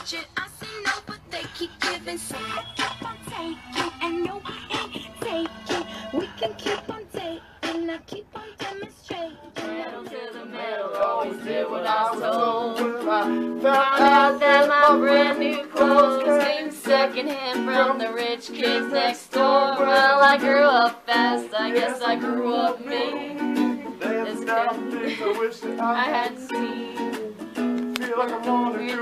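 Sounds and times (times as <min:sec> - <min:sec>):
person singing: 0:00.0 - 0:29.0
ukulele strumming: 0:01.8 - 0:29.0.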